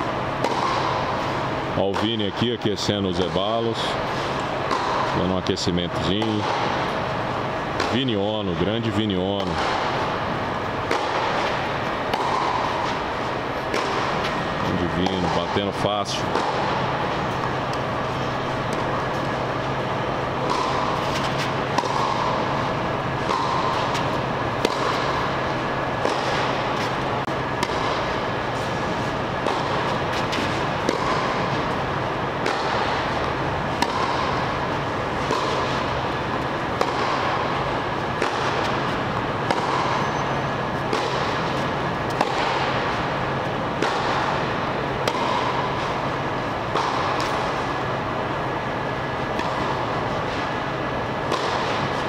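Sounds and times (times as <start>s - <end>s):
steady hum: 0.0s - 52.0s
racket striking tennis ball: 0.4s - 2.2s, 3.2s - 7.1s, 7.7s - 52.0s
tennis ball bouncing: 0.4s - 2.2s, 4.1s - 8.3s, 9.2s - 52.0s.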